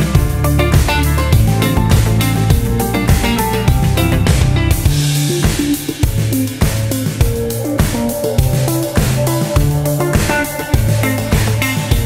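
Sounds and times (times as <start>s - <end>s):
bass: 0.0s - 12.0s
drum kit beat: 0.0s - 12.0s
guitar: 0.0s - 12.0s.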